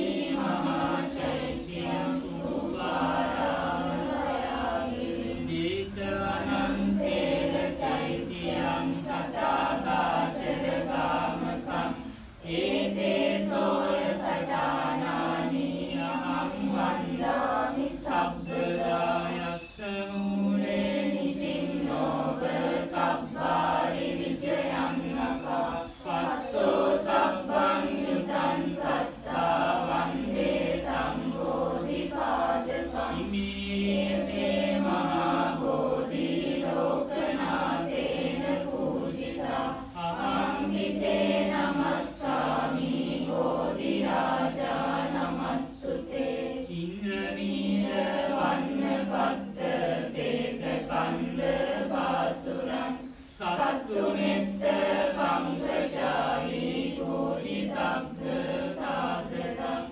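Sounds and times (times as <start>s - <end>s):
group of voices chanting: 0.0s - 59.9s.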